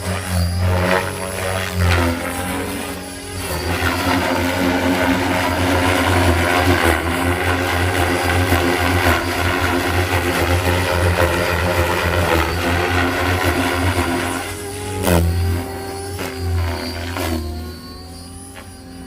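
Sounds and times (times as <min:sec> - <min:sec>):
rc helicopter whine and buzz: 0:00.0 - 0:19.0.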